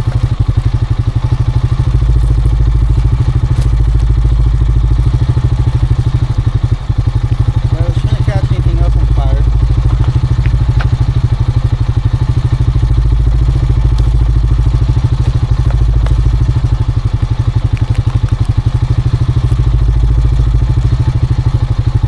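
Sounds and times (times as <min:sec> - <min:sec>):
atv engine idling: 0:00.0 - 0:22.0.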